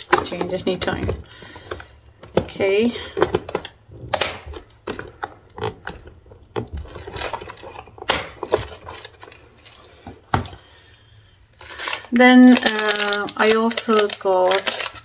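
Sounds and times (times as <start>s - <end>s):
plastic scraping rustles: 0.0s - 15.0s.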